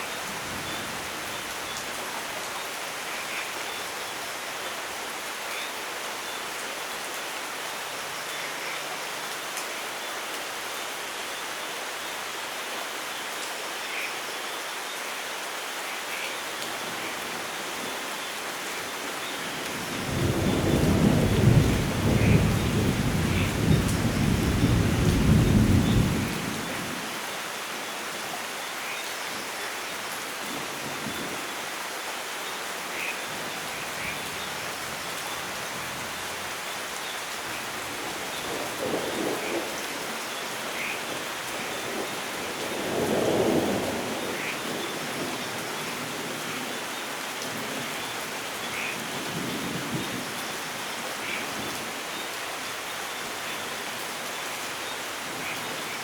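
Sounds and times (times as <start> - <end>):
steady rain with drips: 0.0 - 56.0.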